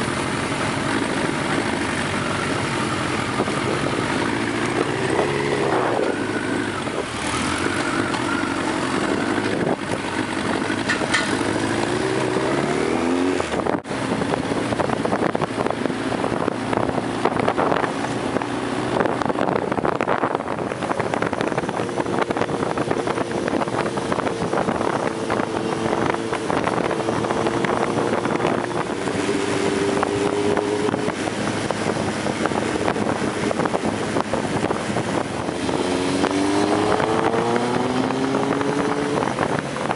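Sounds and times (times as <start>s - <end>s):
motorcycle engines: 0.0s - 39.9s
wind noise on microphone: 0.0s - 39.9s.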